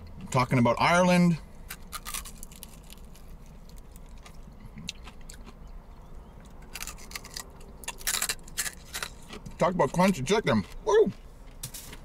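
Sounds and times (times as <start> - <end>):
crunchy chewing of fried chicken: 1.5 - 12.0.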